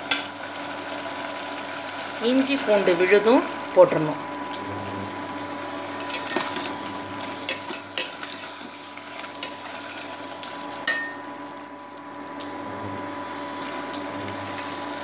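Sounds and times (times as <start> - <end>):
steady hum: 0.4 - 15.0.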